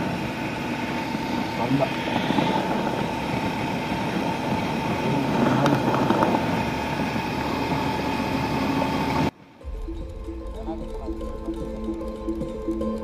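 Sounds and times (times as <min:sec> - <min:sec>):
motorcycle engine: 0:00.0 - 0:13.0
wind noise: 0:00.0 - 0:13.0.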